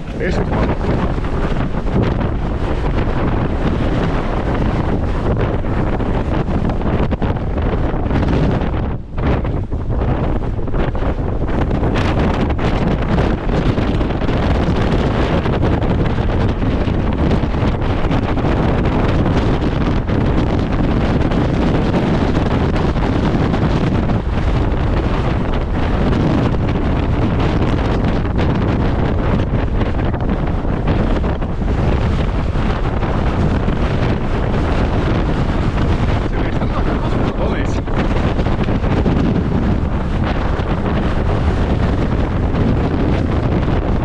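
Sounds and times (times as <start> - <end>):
strong wind buffeting microphone: 0.0 - 44.0.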